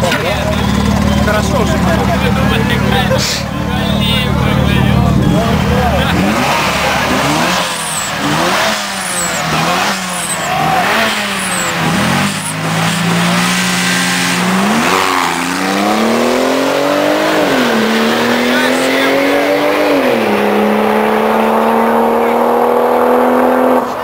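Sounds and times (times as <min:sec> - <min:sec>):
car accelerating hard: 0:00.0 - 0:24.0
car engines revving in blips: 0:00.0 - 0:24.0.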